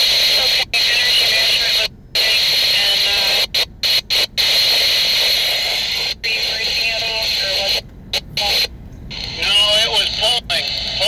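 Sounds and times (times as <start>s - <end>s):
faint garbled radio voice: 0.0s - 11.0s
radio static hissing: 0.0s - 11.0s.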